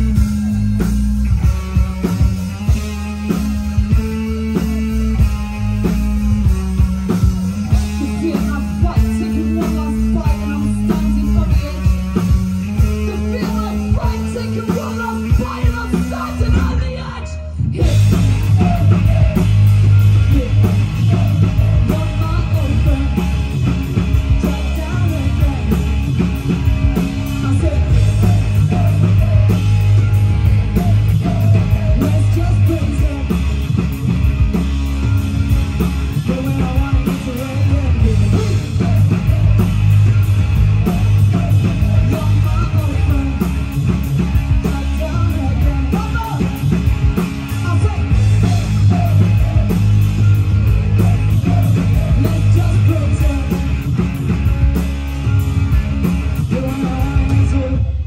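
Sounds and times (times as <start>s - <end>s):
punk rock band playing: 0.0s - 58.0s.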